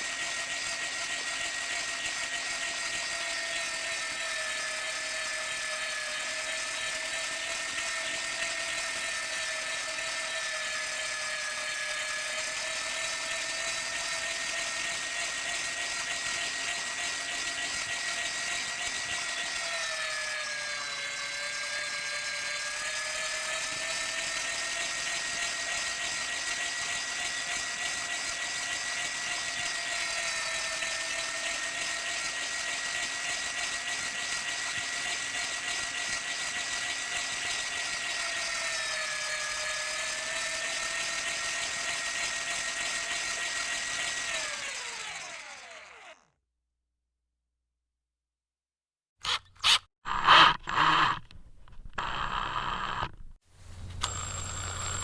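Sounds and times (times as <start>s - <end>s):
power tool motor whining: 0.0s - 46.3s, 49.2s - 55.0s.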